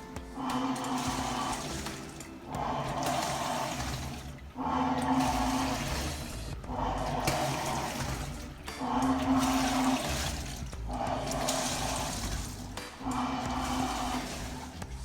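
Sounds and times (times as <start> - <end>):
low motor hum: 0.0 - 15.0
washing machine water churning: 0.0 - 15.0.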